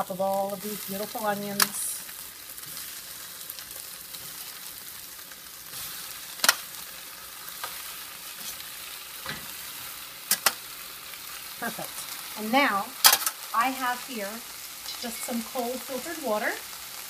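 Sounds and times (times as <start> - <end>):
onions and chicken sizzling: 0.0 - 17.0.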